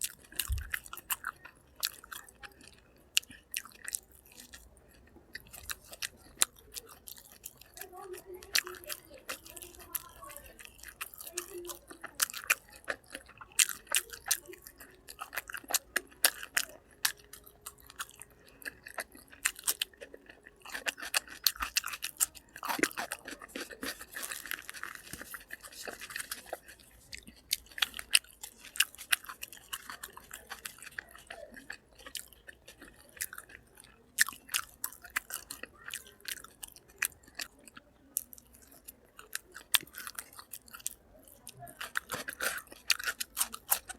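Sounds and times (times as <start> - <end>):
chewing crunchy food: 0.0 - 43.9.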